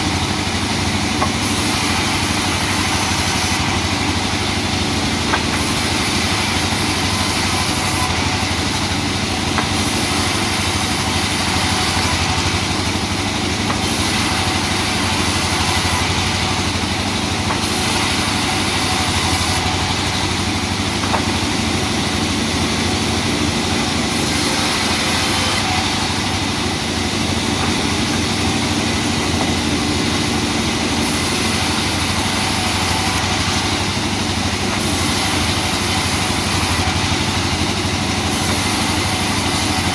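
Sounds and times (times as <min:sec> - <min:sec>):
sawmill machinery engine drone: 0:00.0 - 0:39.9.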